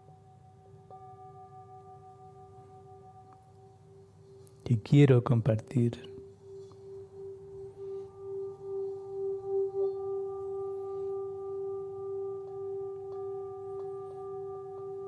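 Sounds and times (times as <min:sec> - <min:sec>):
singing bowl ringing: 0:00.0 - 0:04.6, 0:05.9 - 0:15.0.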